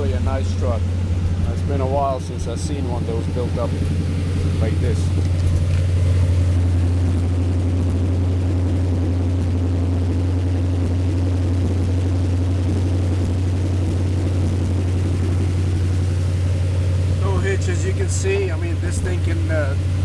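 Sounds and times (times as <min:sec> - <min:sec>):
engine idling exhaust drone: 0:00.0 - 0:20.0.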